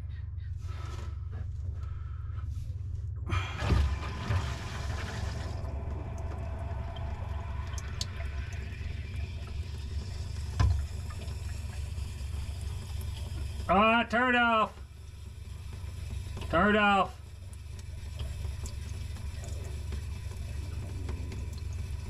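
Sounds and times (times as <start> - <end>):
steady low hum: 0.0 - 22.0
water rushing through a drain: 3.3 - 22.0.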